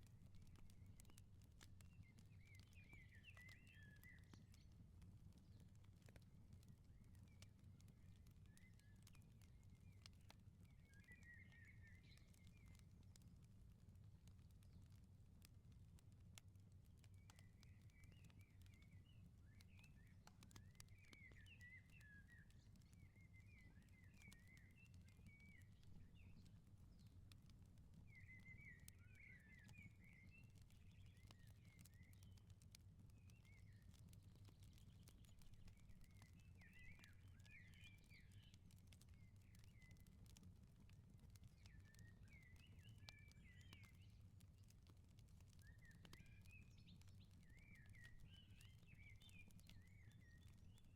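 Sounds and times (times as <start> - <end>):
firepit crackling: 0.0 - 50.9.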